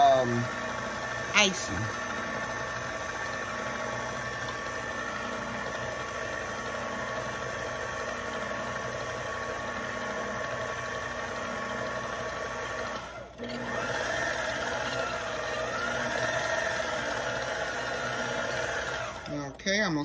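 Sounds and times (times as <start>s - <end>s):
stand mixer beating batter: 0.0s - 19.9s.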